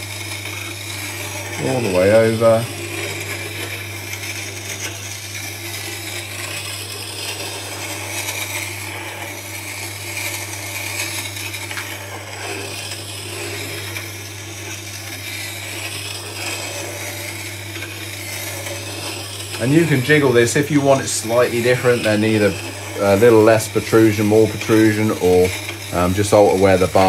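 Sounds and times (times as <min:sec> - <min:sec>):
motor hum: 0:00.0 - 0:27.0
wet stone grinding hiss: 0:00.4 - 0:27.0.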